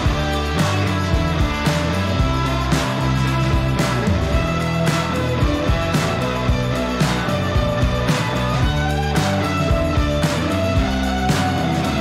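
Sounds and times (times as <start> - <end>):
guitar-led rock music: 0.0 - 12.0.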